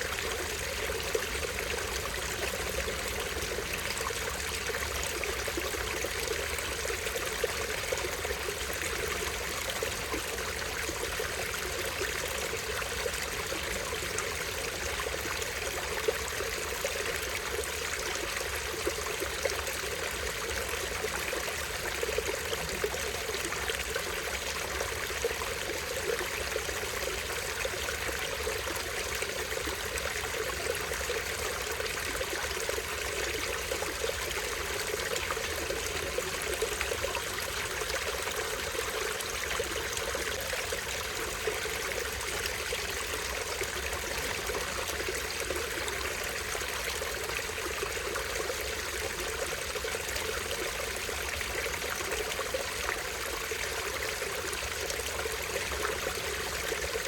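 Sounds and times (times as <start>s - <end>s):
stream over small waterfall: 0.0s - 57.0s.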